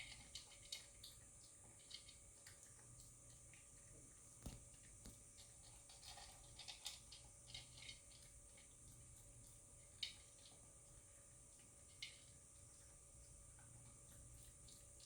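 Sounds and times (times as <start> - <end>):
dog chewing dry food: 0.0 - 15.0
quiet room hum: 0.0 - 15.0.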